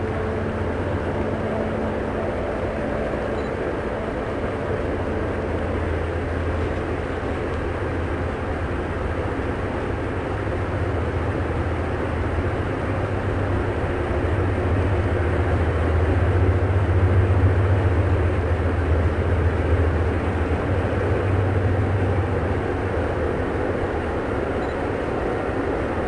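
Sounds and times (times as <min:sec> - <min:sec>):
train rumbling past: 0:00.0 - 0:26.0.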